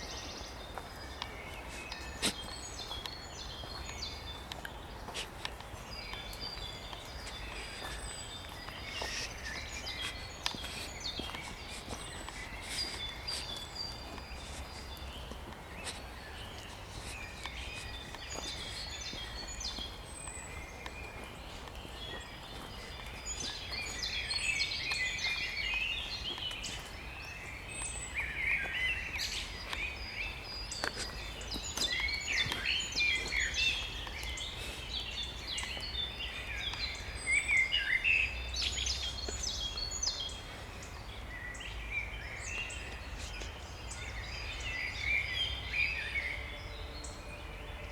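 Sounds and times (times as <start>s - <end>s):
songbirds singing: 0.0s - 47.9s.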